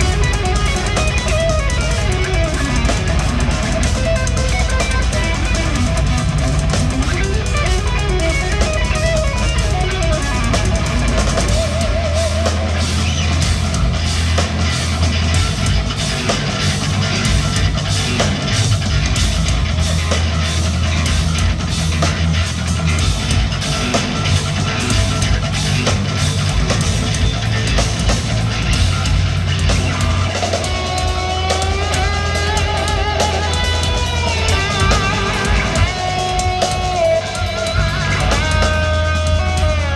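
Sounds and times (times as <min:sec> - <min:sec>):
melodic electric guitar line: 0:00.0 - 0:39.9
progressive metal band playing: 0:00.0 - 0:39.9.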